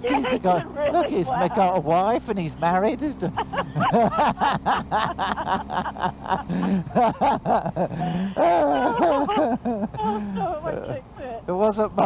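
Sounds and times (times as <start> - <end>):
people laughing hard: 0.1 - 11.0.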